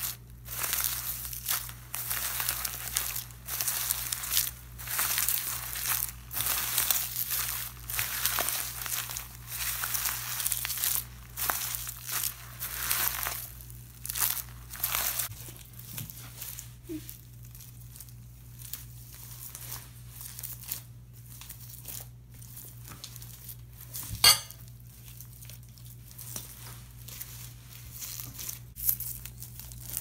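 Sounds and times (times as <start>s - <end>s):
slime crackling and crunching: 0.0s - 30.0s.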